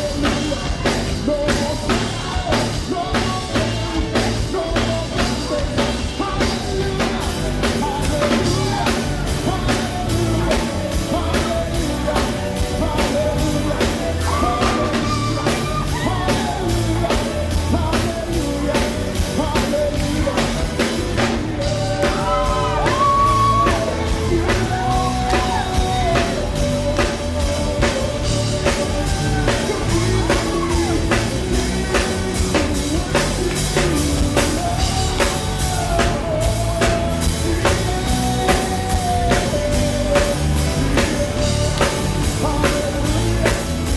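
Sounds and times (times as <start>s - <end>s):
drum kit beat: 0.0s - 43.9s
live rock band playing: 0.0s - 43.9s
people singing: 0.0s - 43.9s.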